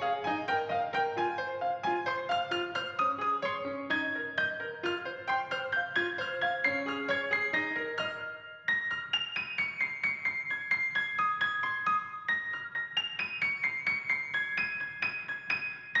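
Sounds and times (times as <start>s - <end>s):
piano music with quick notes: 0.0s - 16.0s.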